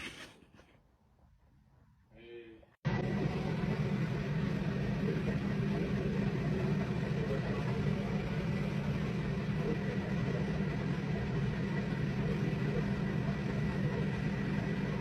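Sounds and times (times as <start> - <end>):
low motor hum: 2.8 - 15.0.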